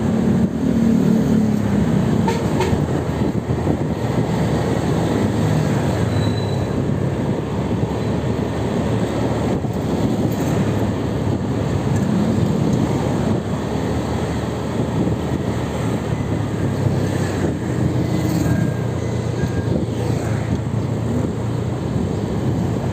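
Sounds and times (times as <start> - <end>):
moving vehicle rumble: 0.0 - 22.9.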